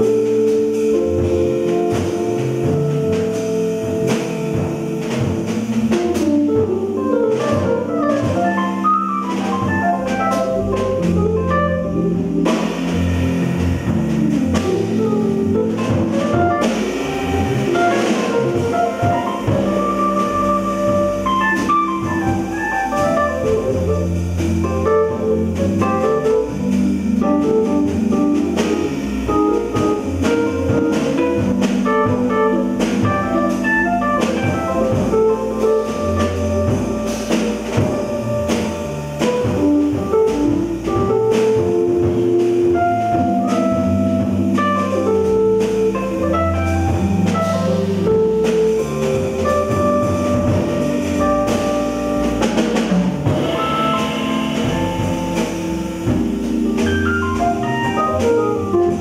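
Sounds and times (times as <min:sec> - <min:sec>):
drum kit with cymbals: 0:00.0 - 0:59.0
electric bass: 0:00.0 - 0:59.0
stage keyboard: 0:00.0 - 0:59.0.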